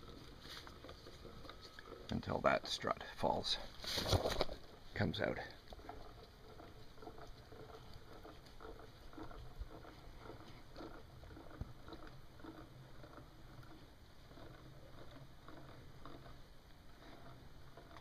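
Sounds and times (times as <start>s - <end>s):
jack crank clicking and creaking: 0.0s - 18.0s.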